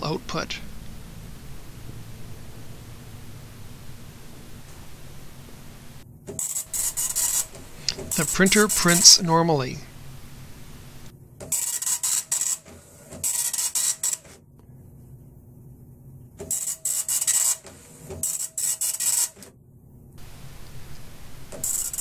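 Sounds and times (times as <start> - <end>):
dot matrix printer buzzing: 0.0 - 14.4, 16.4 - 19.5, 20.2 - 22.0.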